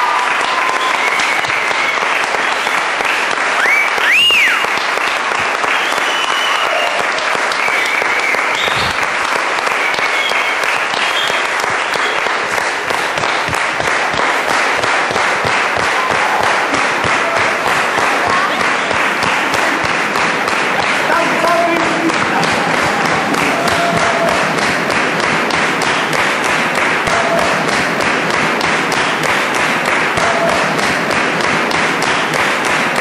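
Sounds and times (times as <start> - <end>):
high cheer: 0.0 - 28.4, 29.2 - 31.5
crowd applauding: 0.0 - 33.0.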